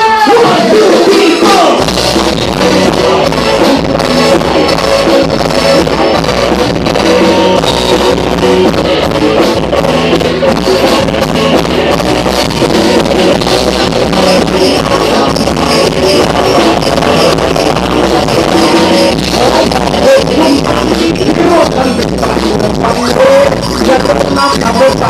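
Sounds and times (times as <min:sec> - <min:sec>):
band music: 0:00.0 - 0:25.0
electric guitar: 0:00.0 - 0:25.0
drum kit steady beat: 0:00.8 - 0:25.0.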